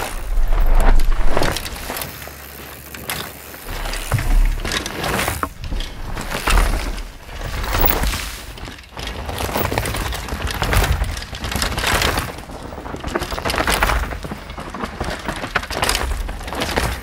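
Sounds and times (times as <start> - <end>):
bike tyres crunching over dirt: 0.0 - 17.0.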